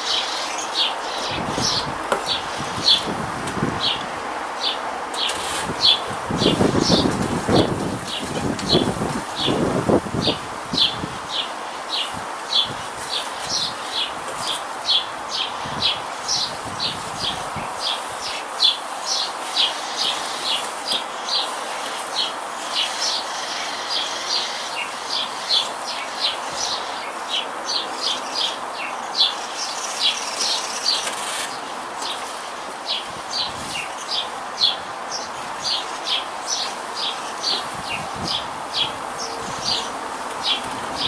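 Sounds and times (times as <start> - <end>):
background hiss: 0.0 - 41.0
small birds chirping: 0.0 - 41.0.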